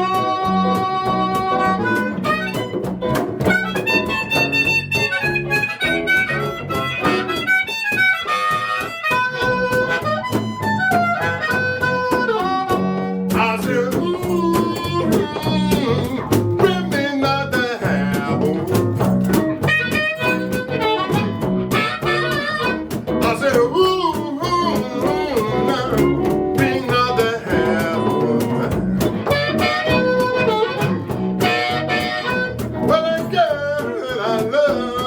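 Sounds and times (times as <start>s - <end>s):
band accompaniment: 0.0s - 35.0s
blues harmonica melody: 0.0s - 35.0s.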